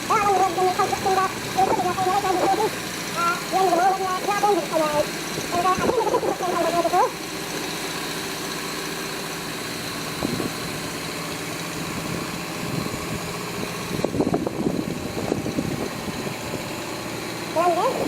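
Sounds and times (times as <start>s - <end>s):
engine idling drone: 0.0s - 18.0s.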